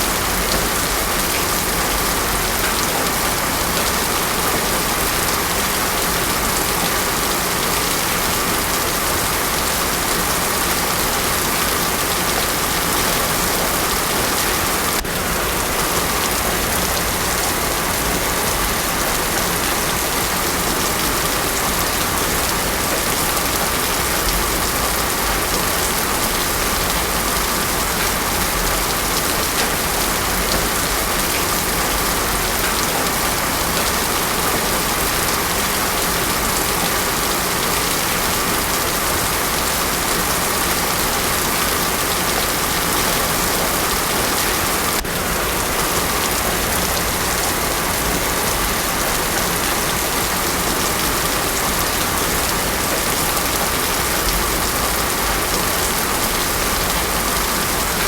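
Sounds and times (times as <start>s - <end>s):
heavy rain on a road: 0.0s - 58.0s.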